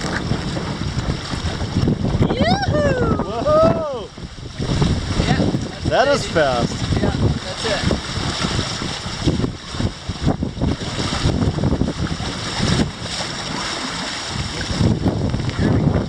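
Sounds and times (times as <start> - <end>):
water rushing past boat hulls: 0.0 - 16.0
wind buffeting microphone: 0.0 - 16.0.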